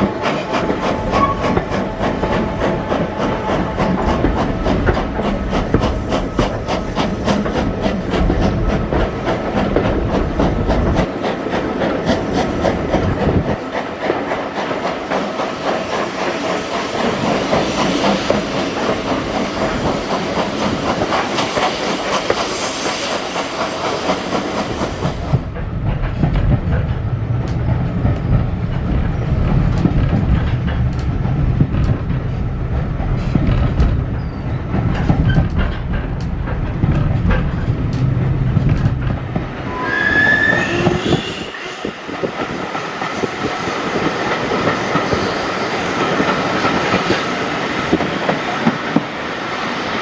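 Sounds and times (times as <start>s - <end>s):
deep train coach rumble: 0.0s - 50.0s
train rushing noise: 0.0s - 50.0s
train wheels clicking on rail joints: 0.0s - 50.0s.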